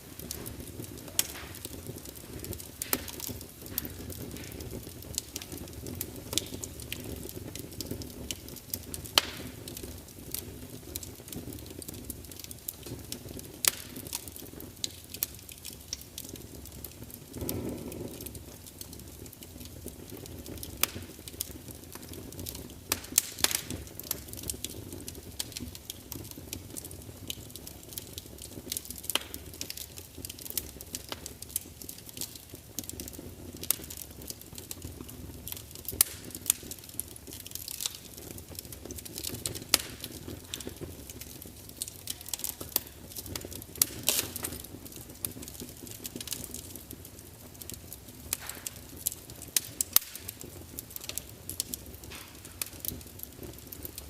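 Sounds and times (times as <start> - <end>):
fire crackling and popping: 0.0 - 54.0
fire flame rumbling: 0.0 - 54.0.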